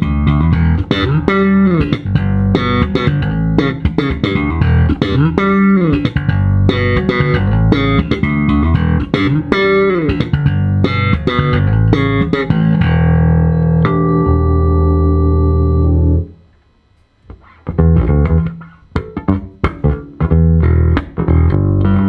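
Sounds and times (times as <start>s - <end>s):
plucked electric bass: 0.0s - 16.5s, 17.3s - 22.0s.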